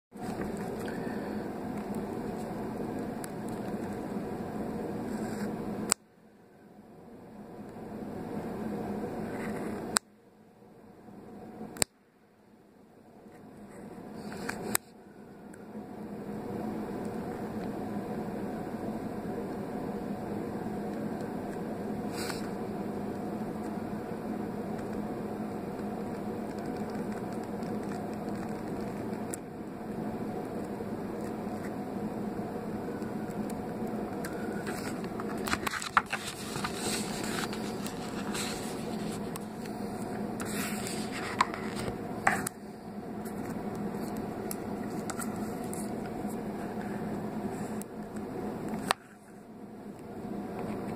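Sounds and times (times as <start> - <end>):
steady low hum: 0.1 - 50.9.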